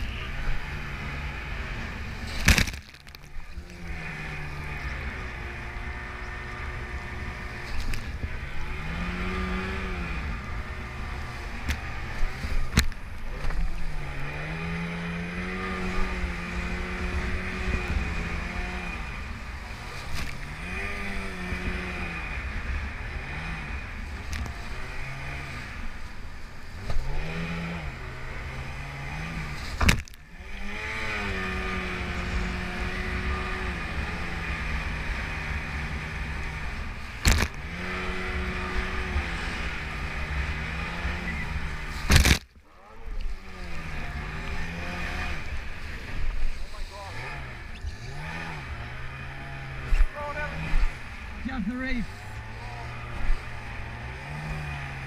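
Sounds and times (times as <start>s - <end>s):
outboard motor revving: 0.0s - 55.0s
wind and water noise: 0.0s - 55.0s.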